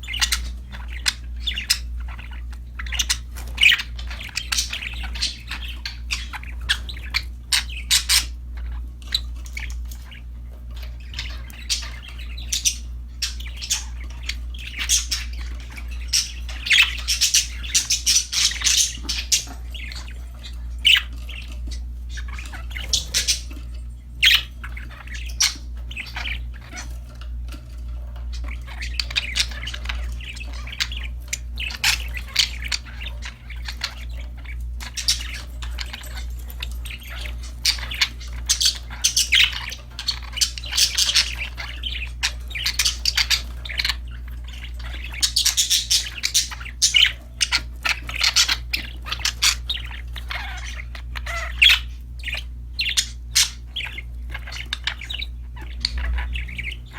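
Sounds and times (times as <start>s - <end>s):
budgerigars chirping: 0.0s - 56.9s
steady low hum: 0.0s - 56.9s.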